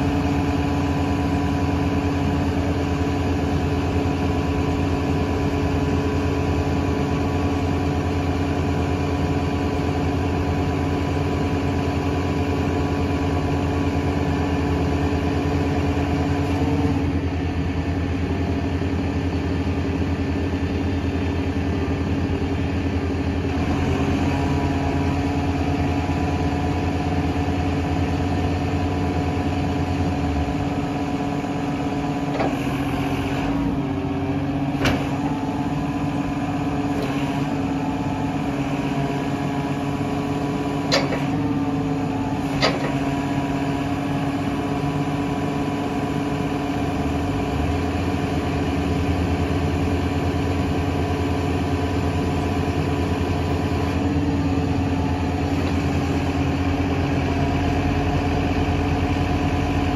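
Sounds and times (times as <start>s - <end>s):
truck engine with hydraulics: 0.0s - 59.9s.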